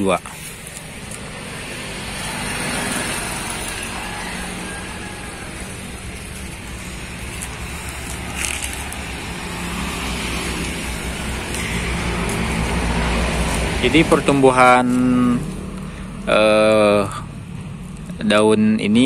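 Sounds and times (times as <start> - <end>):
low rumbling outdoor background noise: 0.0 - 19.0.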